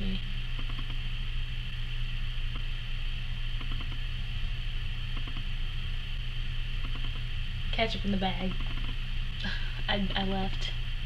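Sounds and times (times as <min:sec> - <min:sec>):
high-pitched whine and hiss: 0:00.0 - 0:11.0
low electrical hum: 0:00.0 - 0:11.0.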